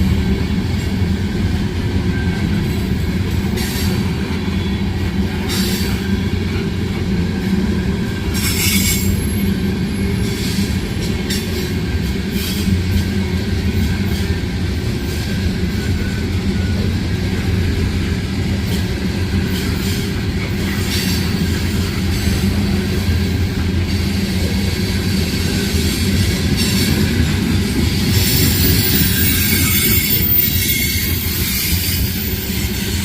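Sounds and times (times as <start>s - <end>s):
freight train rumbling past: 0.0s - 33.0s
wheels screeching on rail: 0.0s - 33.0s.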